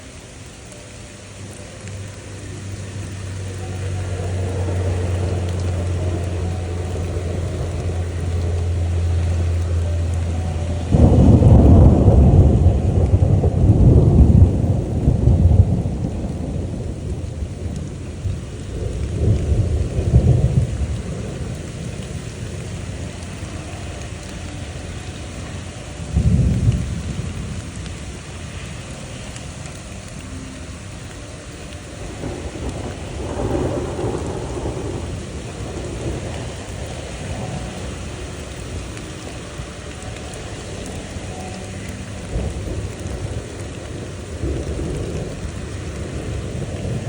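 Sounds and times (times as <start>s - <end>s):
steady rain: 0.0s - 47.0s
thunder rumbling: 0.0s - 47.0s.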